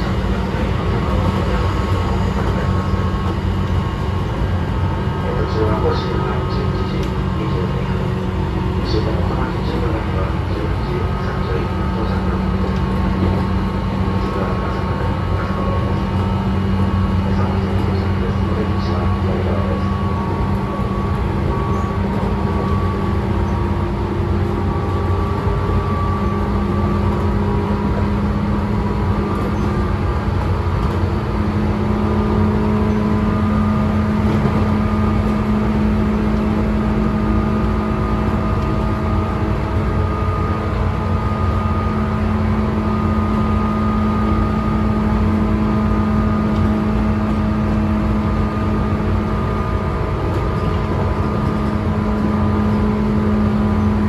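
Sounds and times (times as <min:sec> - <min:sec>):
wheels rumbling on rails: 0:00.0 - 0:54.0.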